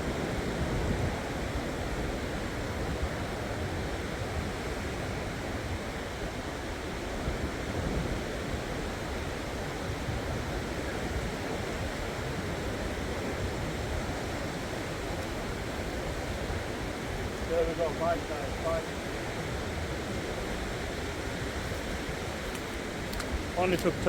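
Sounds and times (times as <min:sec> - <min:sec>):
surf washing on shore: 0:00.0 - 0:24.0
wind rumbling on microphone: 0:00.0 - 0:24.0.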